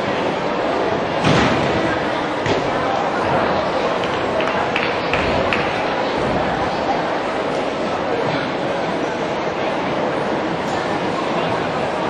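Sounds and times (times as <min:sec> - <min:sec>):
crowd hubbub in a hall: 0:00.0 - 0:12.0.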